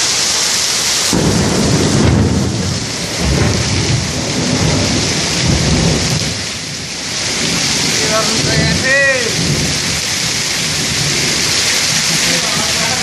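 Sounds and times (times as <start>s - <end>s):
heavy downpour hissing: 0.0s - 13.0s
rolling thunder: 1.1s - 13.0s.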